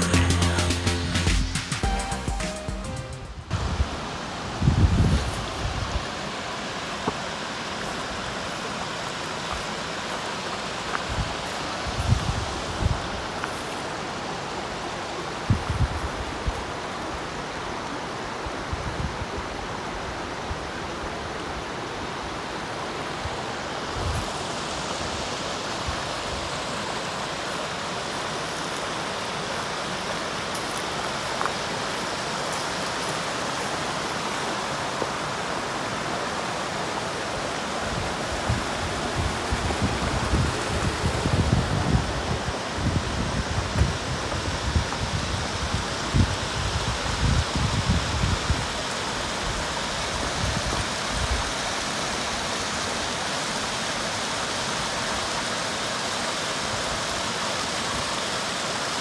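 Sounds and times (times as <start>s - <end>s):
flowing stream water: 3.5s - 59.0s.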